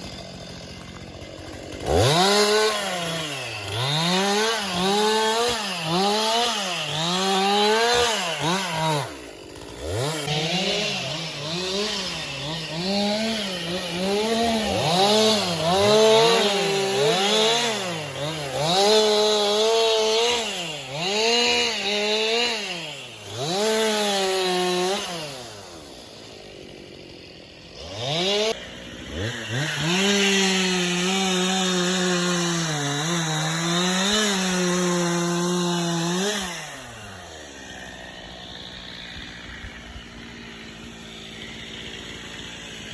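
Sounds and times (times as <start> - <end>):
chainsaw revving cutting wood: 0.0 - 42.9.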